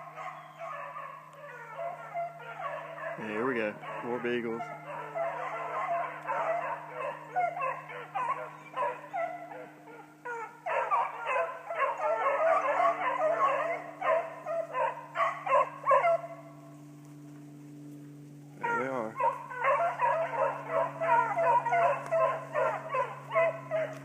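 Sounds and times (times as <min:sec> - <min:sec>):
dogs baying and yelping: 0:00.0 - 0:16.6, 0:18.6 - 0:24.0
low hum: 0:00.0 - 0:24.0.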